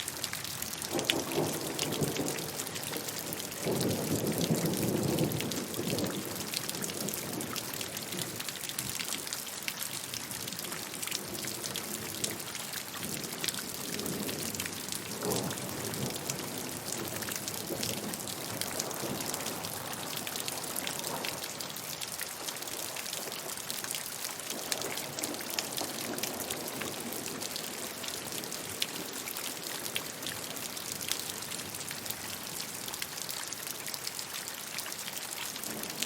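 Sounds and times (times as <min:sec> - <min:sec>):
raindrops pattering: 0:00.0 - 0:36.0.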